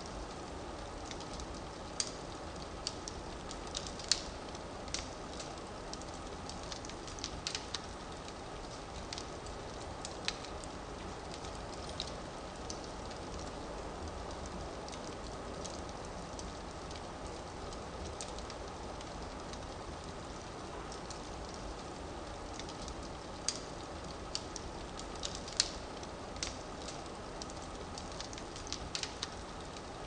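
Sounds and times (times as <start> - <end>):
firewood crackling and popping: 0.0 - 30.0.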